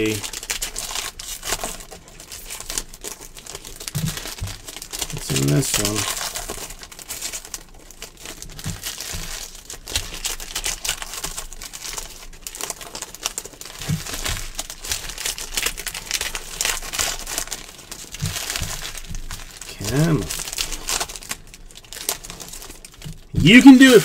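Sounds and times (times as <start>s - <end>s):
card pack wrappers crinkling: 0.0s - 24.0s.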